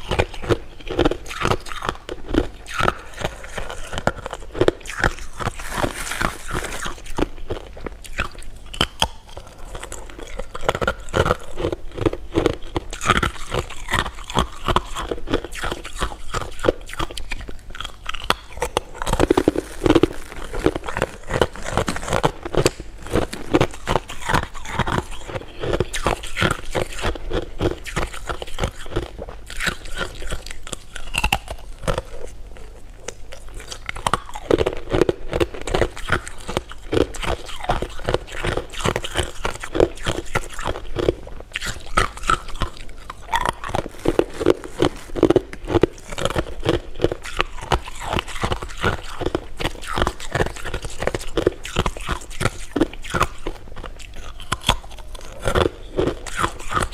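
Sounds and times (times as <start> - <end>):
crunching hard candy: 0.0 - 56.9.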